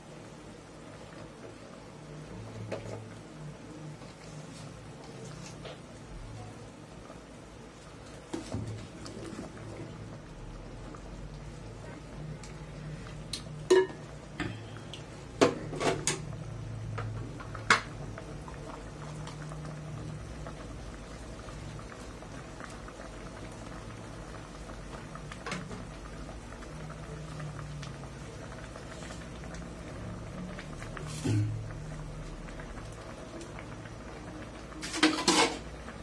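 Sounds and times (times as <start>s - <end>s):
pot boiling and bubbling: 0.0s - 36.0s.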